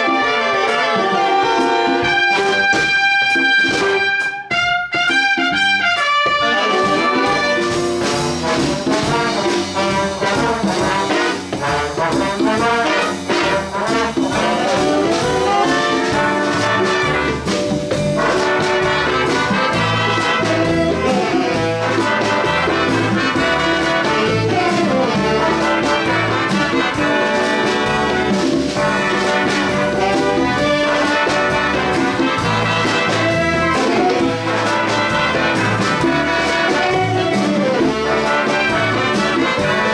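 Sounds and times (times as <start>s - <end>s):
big band playing jazz: 0.0s - 39.9s.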